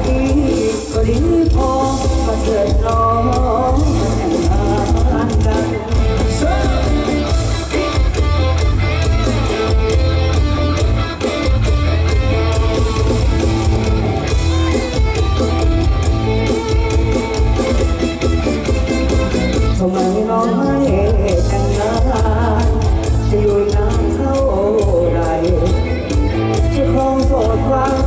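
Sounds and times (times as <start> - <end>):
guitar: 0.0 - 28.0
pop music over stage speakers: 0.0 - 28.0.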